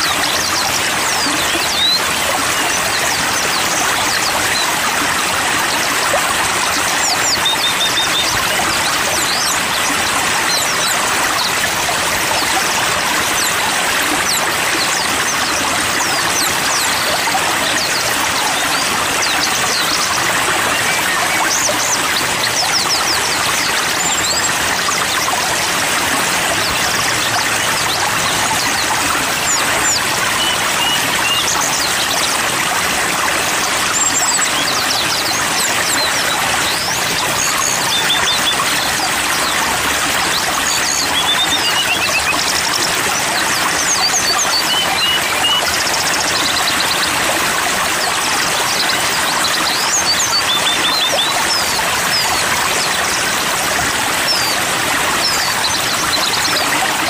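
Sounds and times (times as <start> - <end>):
flowing water: 0.0 - 57.0
songbirds chirping: 0.0 - 57.0.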